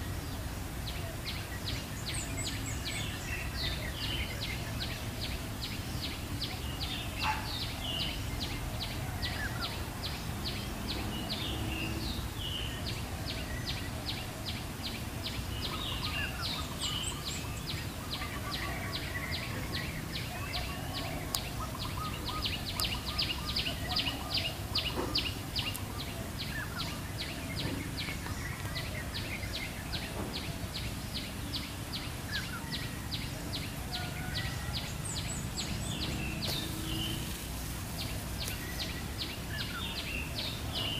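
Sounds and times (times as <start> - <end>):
wild birds calling: 0.0 - 40.9.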